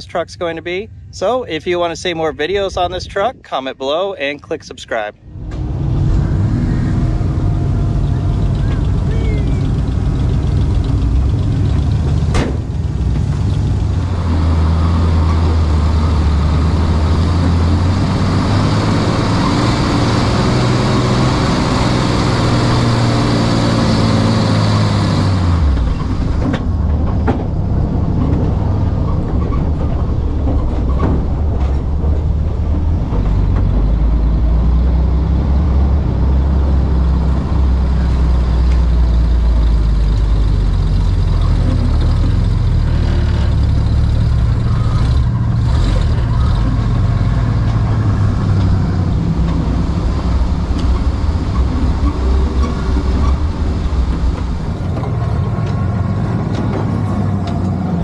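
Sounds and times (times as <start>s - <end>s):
truck engine pulling under load: 5.2s - 58.0s.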